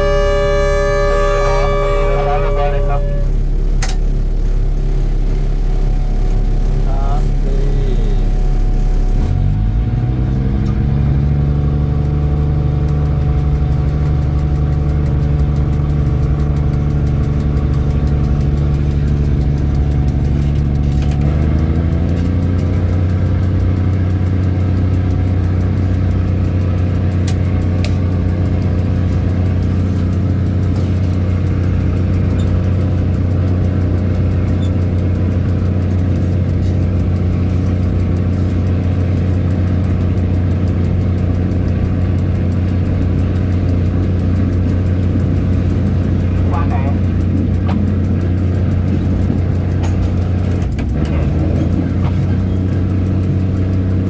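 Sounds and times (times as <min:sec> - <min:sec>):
diesel train engine running: 0:00.0 - 0:54.0.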